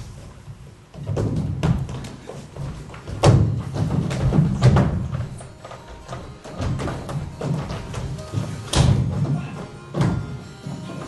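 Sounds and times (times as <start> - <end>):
feet stamping on stage floor: 0.0 - 11.0.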